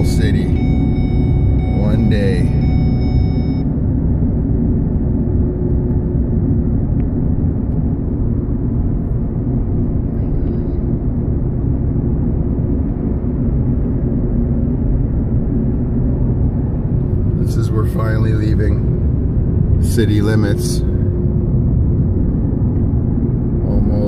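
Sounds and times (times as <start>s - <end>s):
car driving interior rumble: 0.0s - 24.0s
faint constant hum: 0.0s - 24.0s.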